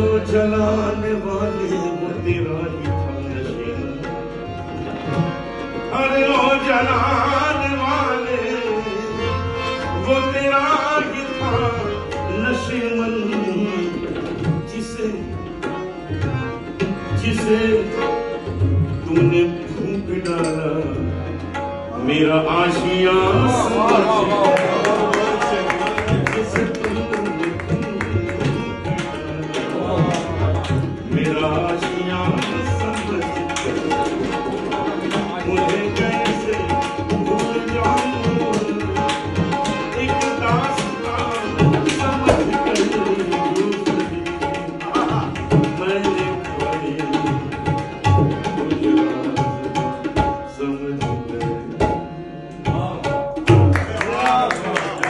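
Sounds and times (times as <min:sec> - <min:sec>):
harmonium holding notes: 0:00.0 - 0:55.0
tabla playing fast: 0:00.0 - 0:55.0.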